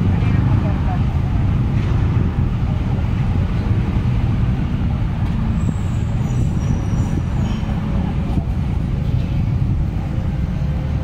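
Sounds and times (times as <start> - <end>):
traffic rumble: 0.0 - 11.0
wind: 0.0 - 11.0.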